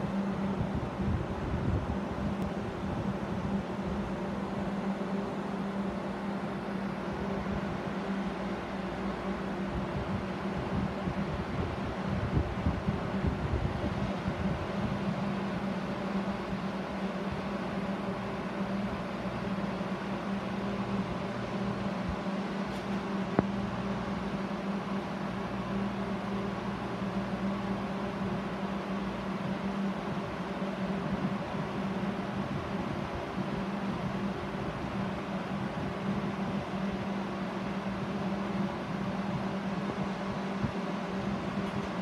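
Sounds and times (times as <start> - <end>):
aquarium pump hum: 0.0 - 42.0.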